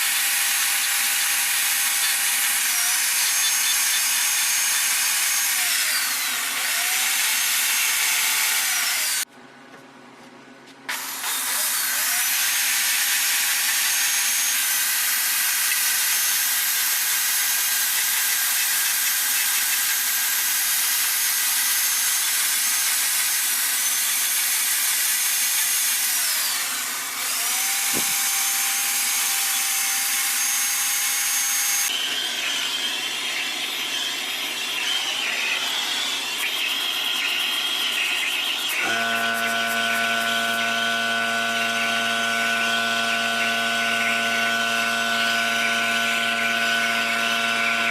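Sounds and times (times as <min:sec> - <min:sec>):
rotary tool carving wood: 0:00.0 - 0:09.3, 0:10.9 - 0:47.9.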